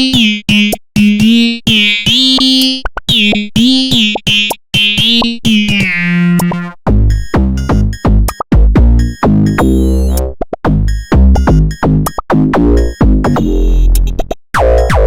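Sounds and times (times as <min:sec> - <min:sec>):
electronic music: 0:00.0 - 0:15.0.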